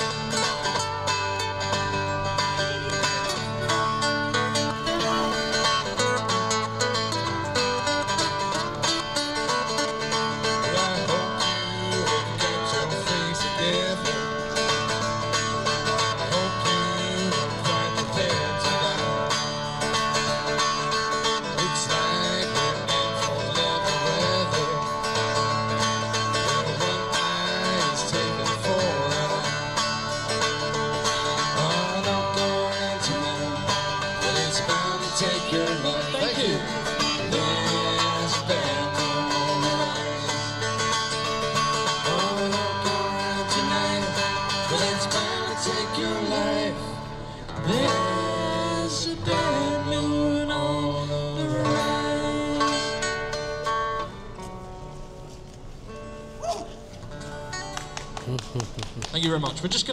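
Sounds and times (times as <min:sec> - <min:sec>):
buskers playing guitars: 0:00.0 - 0:59.9.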